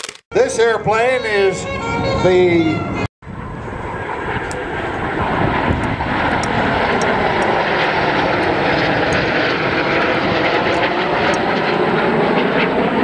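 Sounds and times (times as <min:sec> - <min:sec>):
airplane engines flying over: 0:00.3 - 0:13.0.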